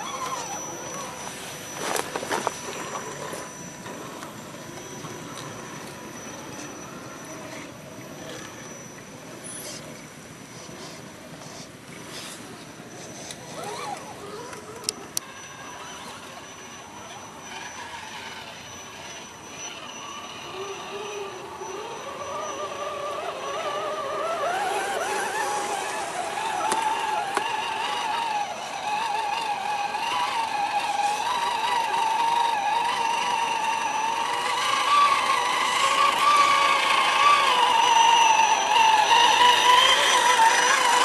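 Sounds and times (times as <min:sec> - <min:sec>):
toy truck electric motors whining: 0:00.0 - 0:41.0
trucks wading through water: 0:00.0 - 0:41.0.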